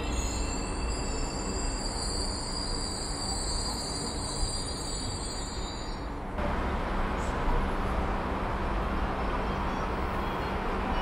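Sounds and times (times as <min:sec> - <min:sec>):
high steady train whine: 0:00.0 - 0:11.0
train rolling rumble: 0:00.0 - 0:11.0.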